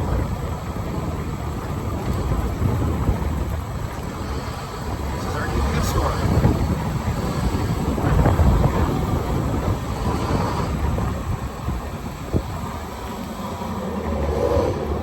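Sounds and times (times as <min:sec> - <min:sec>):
golf cart rumble: 0:00.0 - 0:15.0
wind buffeting microphone: 0:00.0 - 0:15.0.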